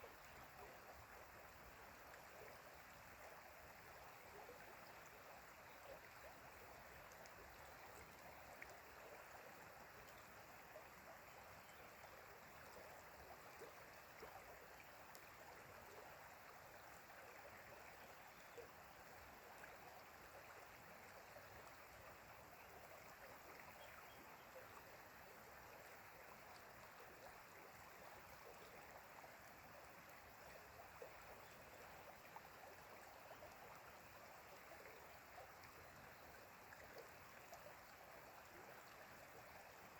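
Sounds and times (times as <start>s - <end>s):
stream flowing and babbling: 0.0s - 39.9s.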